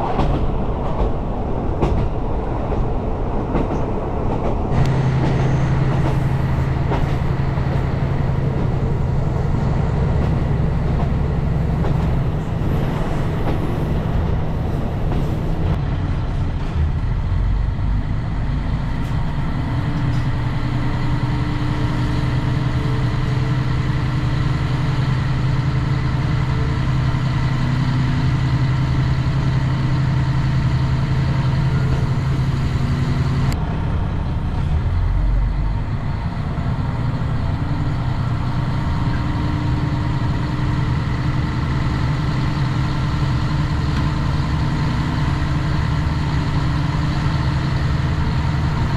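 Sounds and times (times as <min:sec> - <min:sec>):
vehicle engine drone: 0:04.7 - 0:48.9.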